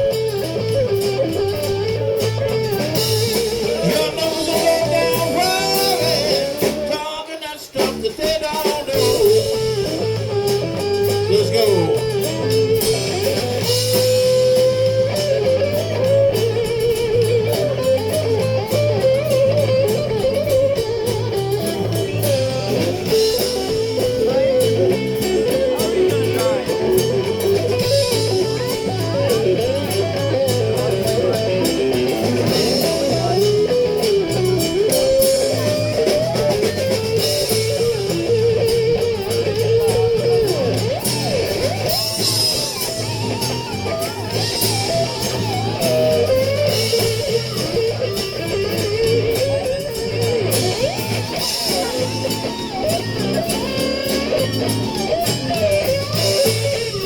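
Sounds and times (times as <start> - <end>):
bass guitar: 0.0 - 57.0
drum kit: 0.0 - 57.0
electric guitar solo: 0.0 - 57.0.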